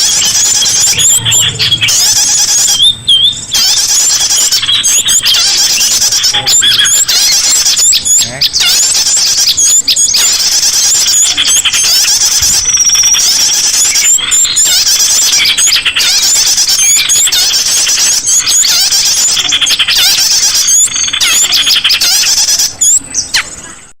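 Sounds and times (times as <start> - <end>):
chorus of small songbirds: 0.0 - 24.0.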